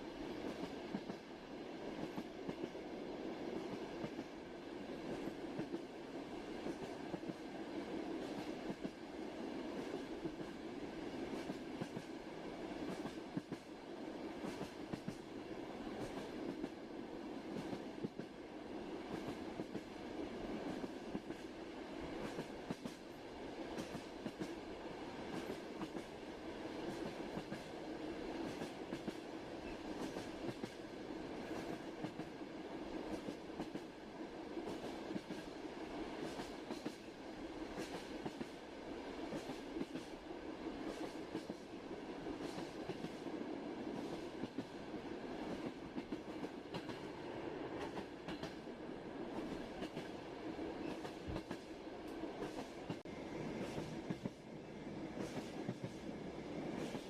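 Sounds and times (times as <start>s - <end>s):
train wheels clickety-clack: 0.0s - 2.8s, 3.4s - 18.4s, 19.0s - 48.7s, 49.3s - 57.0s.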